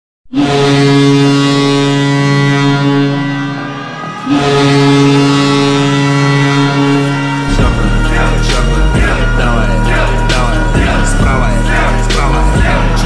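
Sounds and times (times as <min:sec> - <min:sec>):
goal horn blasts: 0:00.3 - 0:13.0.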